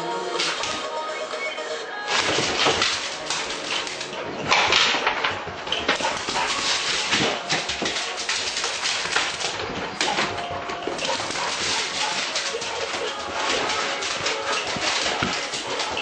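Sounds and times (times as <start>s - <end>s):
puppy claws clattering on tile: 2.1s - 16.0s
puppy barking: 2.2s - 16.0s.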